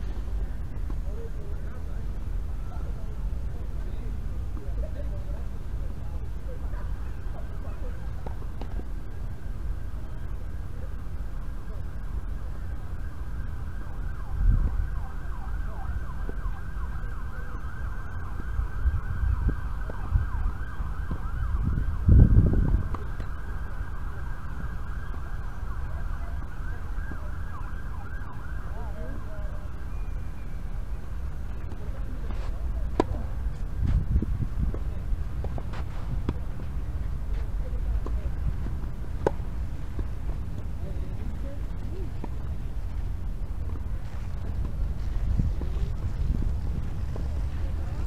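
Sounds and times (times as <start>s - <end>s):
emergency vehicle siren: 9.0s - 48.0s.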